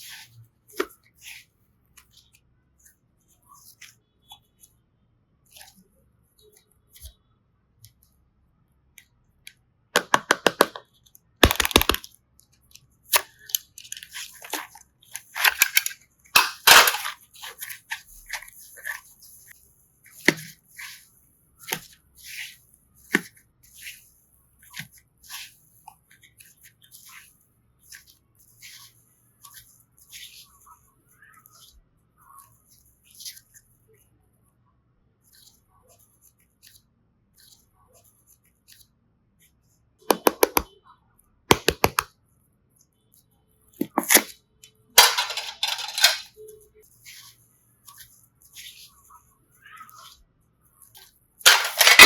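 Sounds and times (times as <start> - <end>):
hands working sticky slime: 0.0 - 52.0.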